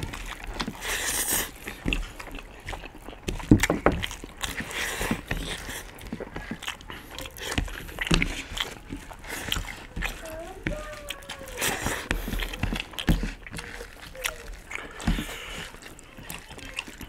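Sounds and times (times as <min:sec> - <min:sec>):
chewing: 0:00.0 - 0:17.0
fingers squishing food: 0:00.0 - 0:17.0.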